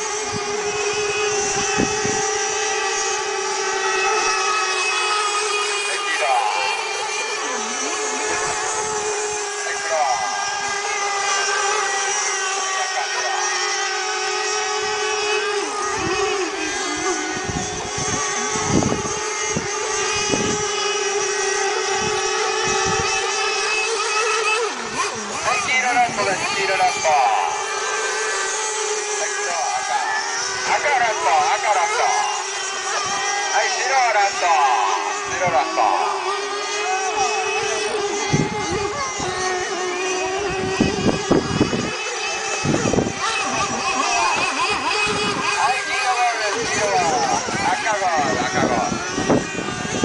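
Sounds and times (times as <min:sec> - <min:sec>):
wind on microphone: 0:00.0 - 0:33.6, 0:34.2 - 0:50.0
model boat engines whining: 0:00.0 - 0:50.0.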